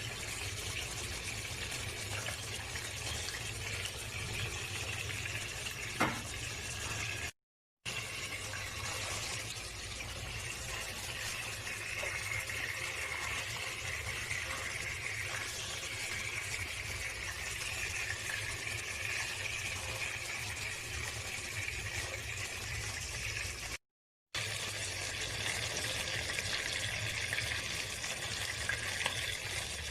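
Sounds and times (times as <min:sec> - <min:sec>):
chicken sizzling in a pan: 0:00.0 - 0:07.3, 0:07.9 - 0:23.8, 0:24.4 - 0:29.9.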